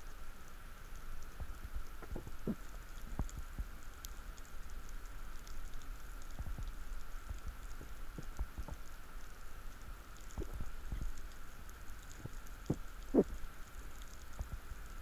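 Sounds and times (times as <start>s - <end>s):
faint underwater hum: 0.0s - 15.0s.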